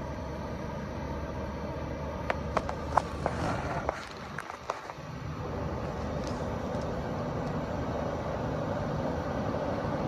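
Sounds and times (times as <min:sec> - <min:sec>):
distant diesel locomotive rumble: 0:00.0 - 0:10.0.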